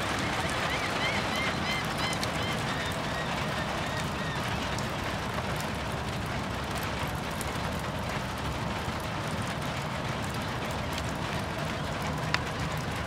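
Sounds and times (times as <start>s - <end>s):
rain shower falling: 0.0s - 13.0s
raindrop ticks: 0.0s - 13.0s.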